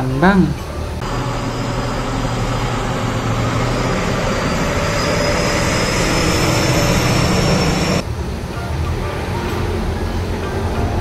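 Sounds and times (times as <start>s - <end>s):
loud engine-like noise: 0.6s - 11.0s
faint high whine: 0.9s - 11.0s.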